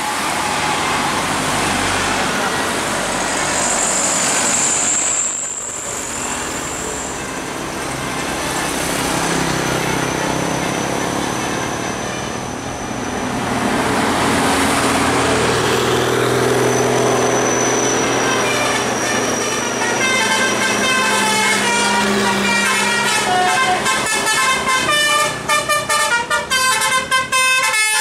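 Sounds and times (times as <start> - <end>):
bus diesel engine climbing: 0.0 - 27.4
cars passing: 0.0 - 28.0.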